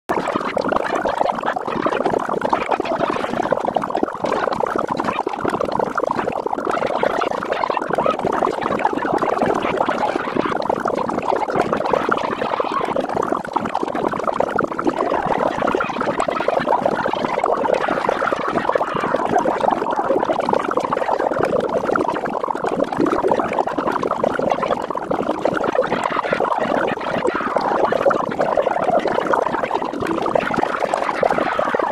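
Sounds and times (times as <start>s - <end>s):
fast garbled chatter: 0.1s - 22.3s, 22.9s - 31.9s.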